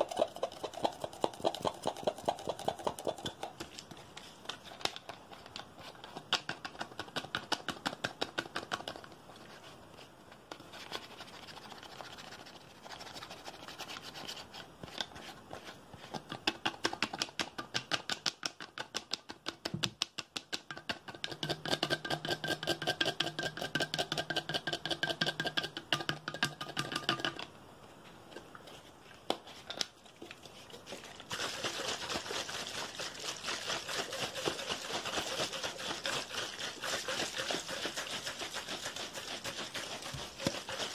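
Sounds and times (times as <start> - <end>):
tapping and scratching on plastic bottle: 0.0 - 9.7, 10.4 - 27.5, 29.2 - 40.9.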